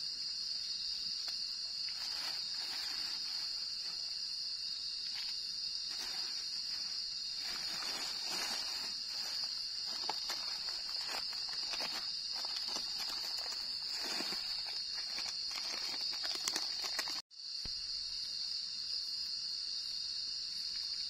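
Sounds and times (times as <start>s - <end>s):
night insects chorus: 0.0s - 21.0s.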